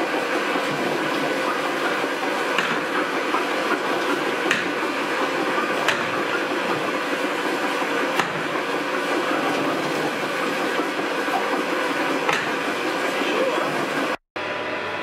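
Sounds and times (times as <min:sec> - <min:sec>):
wine press machinery rattle and hum: 0:00.0 - 0:14.2.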